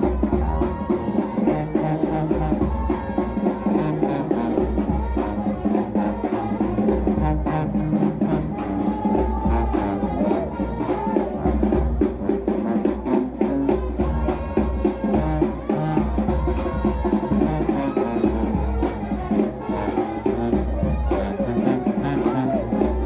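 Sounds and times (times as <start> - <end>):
bass drum beat: 0.0 - 23.0
brass horns playing: 0.0 - 23.0.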